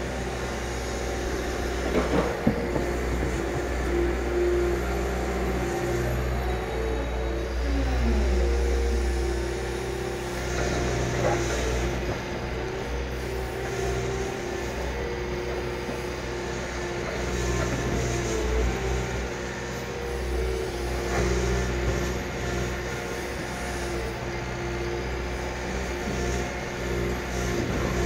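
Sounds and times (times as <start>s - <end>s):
excavator diesel engine hum: 0.0s - 28.0s.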